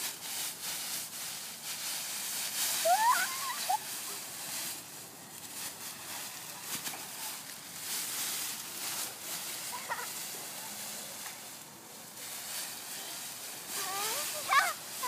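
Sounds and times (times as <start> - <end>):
dry leaves rustling and crunching: 0.0 - 15.0.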